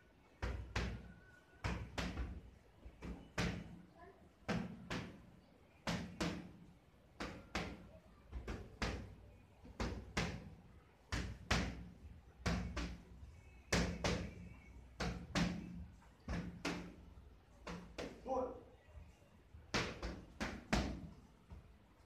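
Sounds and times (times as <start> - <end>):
boxing gloves hitting mitts: 0.4 - 3.8, 4.4 - 18.2, 19.6 - 21.7.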